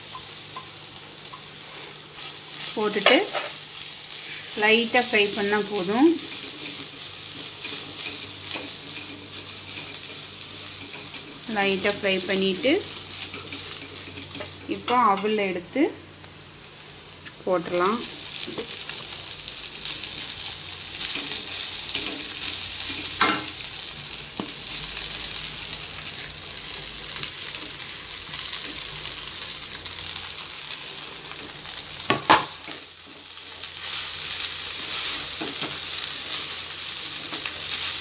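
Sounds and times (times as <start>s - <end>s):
rice sizzling in hot oil: 0.0s - 38.0s.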